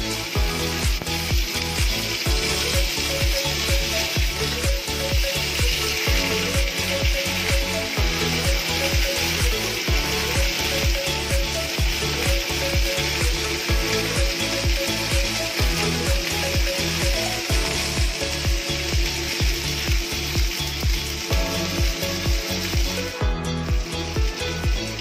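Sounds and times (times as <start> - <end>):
background music with steady beat: 0.0 - 25.0
fish sizzling in hot oil: 0.0 - 25.0.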